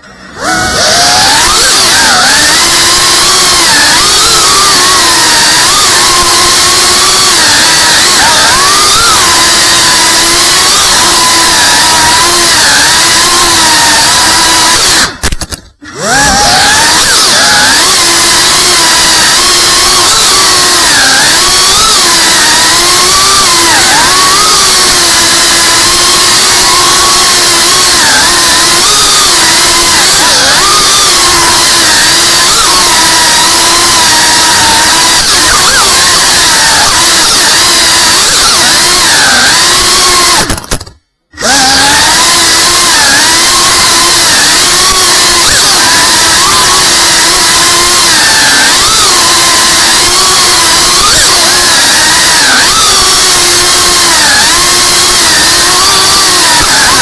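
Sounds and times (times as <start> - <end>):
racing drone motors whining: 0.0 - 57.0.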